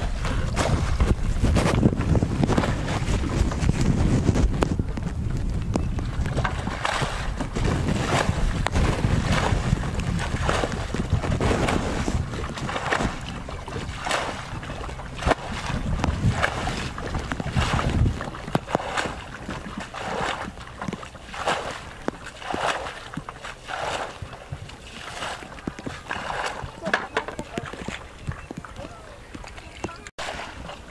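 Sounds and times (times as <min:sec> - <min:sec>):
feet wading: 0:00.0 - 0:30.9
muddy water splashing: 0:00.0 - 0:30.9
wind rumbling on microphone: 0:00.0 - 0:30.9.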